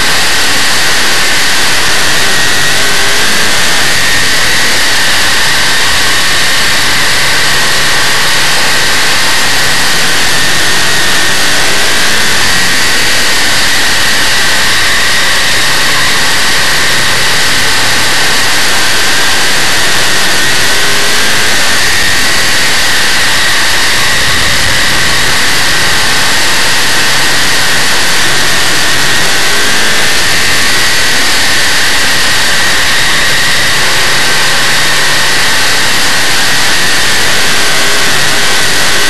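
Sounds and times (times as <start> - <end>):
race car engine running hard: 0.0 - 39.0.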